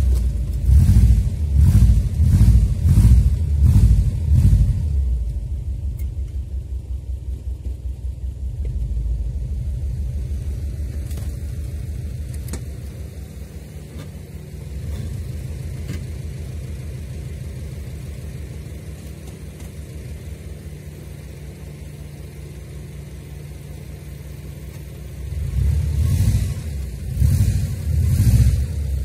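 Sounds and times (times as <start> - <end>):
car engine rumbling at low revs: 0.0 - 29.0.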